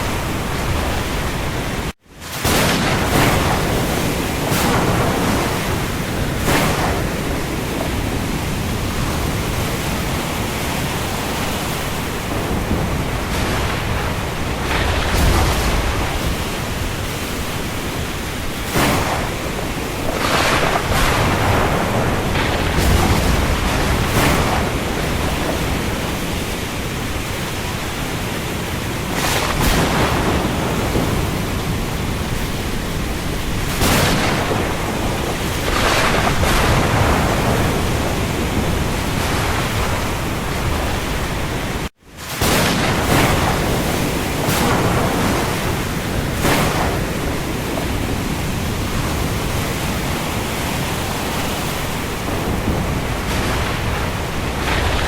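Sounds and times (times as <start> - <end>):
heavy rain on sea: 0.0 - 55.0.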